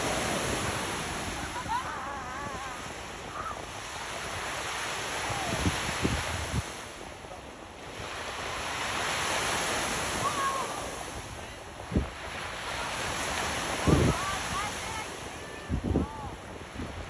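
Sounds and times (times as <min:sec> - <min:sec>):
surf washing ashore: 0:00.0 - 0:17.0.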